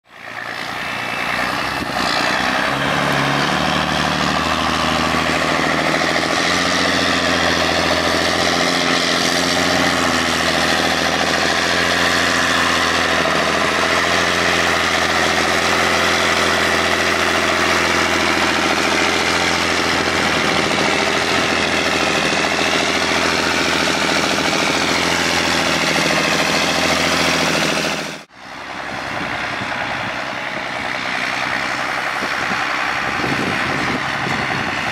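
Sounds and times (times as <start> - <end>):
tractor diesel engine working: 0.0 - 34.9.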